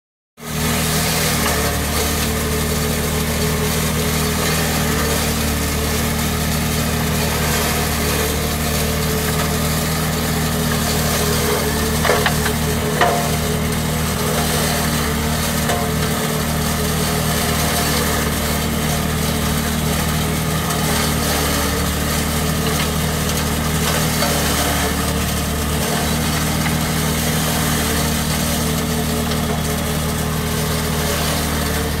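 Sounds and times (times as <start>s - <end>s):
spreader machinery droning: 0.4s - 32.0s.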